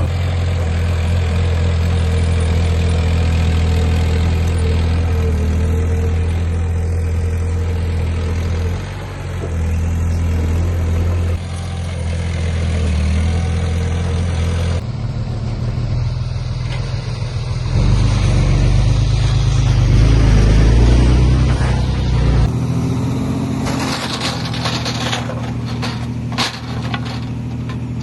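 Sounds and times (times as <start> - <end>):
heavy machinery engines running: 0.0 - 28.0.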